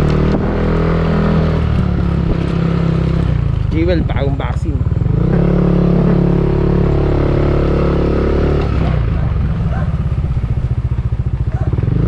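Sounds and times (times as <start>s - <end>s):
scooter engine under throttle: 0.0s - 12.0s.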